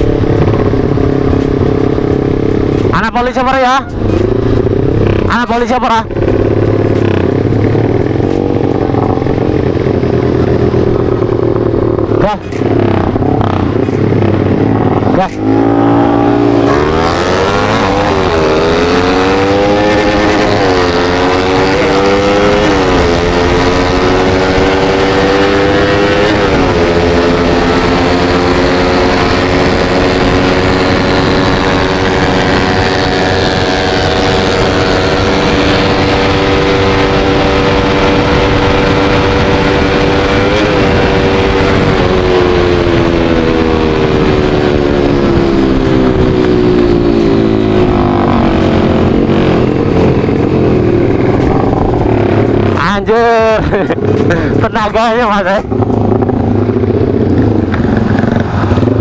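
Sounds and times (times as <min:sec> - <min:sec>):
motorcycle engine accelerating hard: 0:00.0 - 0:59.0.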